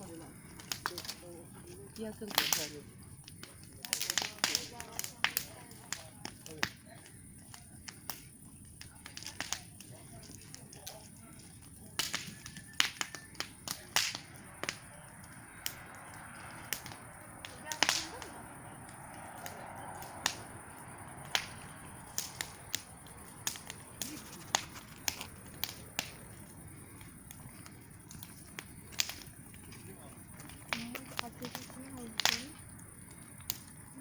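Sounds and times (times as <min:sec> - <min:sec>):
campfire crackling: 0:00.0 - 0:34.0
faint fire hiss: 0:00.0 - 0:34.0.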